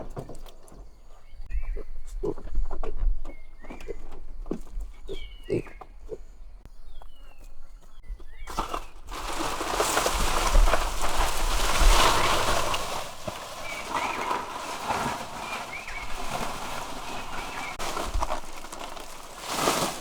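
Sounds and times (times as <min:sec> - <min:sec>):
small birds chirping: 0:00.1 - 0:09.2, 0:11.0 - 0:20.0.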